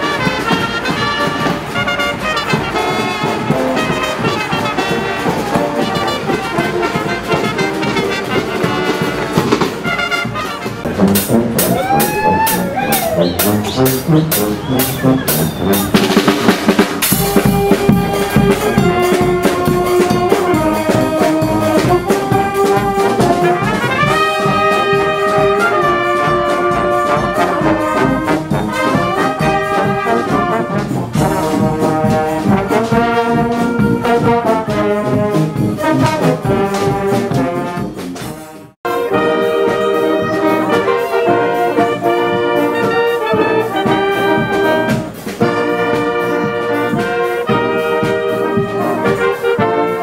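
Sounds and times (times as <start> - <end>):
marching band playing: 0.0 - 50.0.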